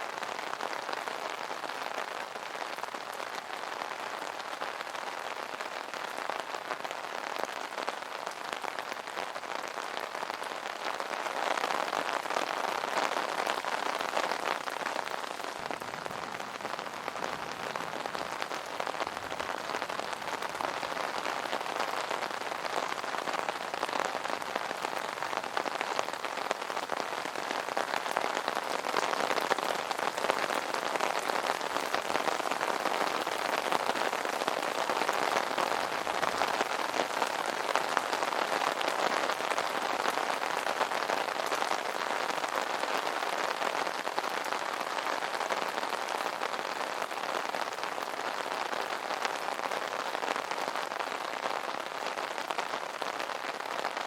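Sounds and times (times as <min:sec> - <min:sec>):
rain drumming on an umbrella: 0:00.0 - 0:54.0.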